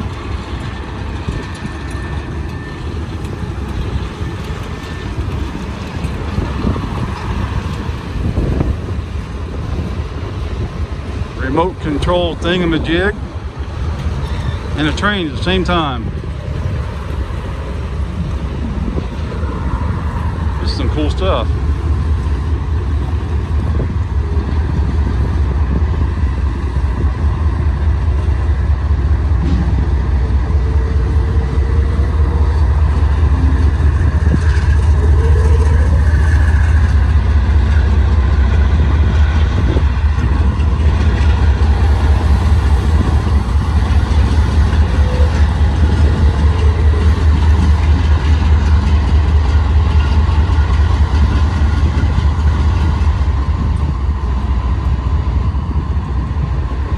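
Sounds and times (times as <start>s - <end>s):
low engine rumble: 0.0s - 56.9s.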